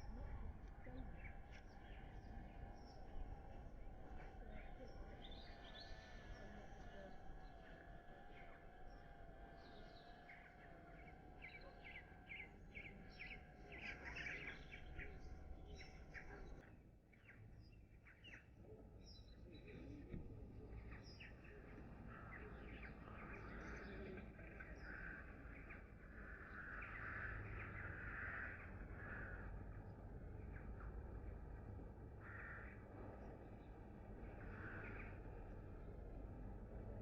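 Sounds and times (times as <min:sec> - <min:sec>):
birds chirping and singing: 0:00.0 - 0:29.8
faint wavering hum: 0:00.0 - 0:37.0.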